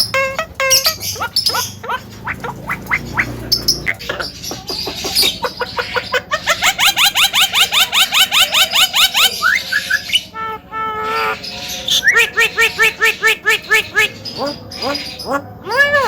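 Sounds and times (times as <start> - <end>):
bird calling rising notes: 0.0 - 4.0, 6.4 - 16.0
bird harsh chatter: 0.0 - 16.0.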